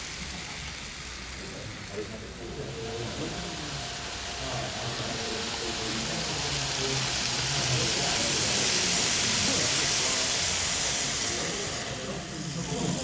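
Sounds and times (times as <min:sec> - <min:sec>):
model train wheels rumbling on rail: 0:00.0 - 0:13.0.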